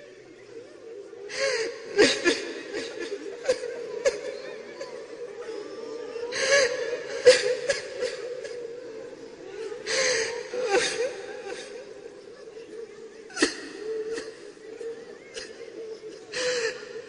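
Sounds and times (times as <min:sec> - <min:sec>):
man sobbing: 0:01.3 - 0:17.0.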